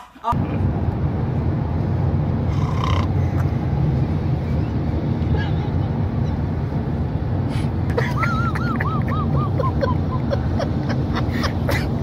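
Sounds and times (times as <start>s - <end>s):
road and engine noise in car: 0.2s - 12.0s.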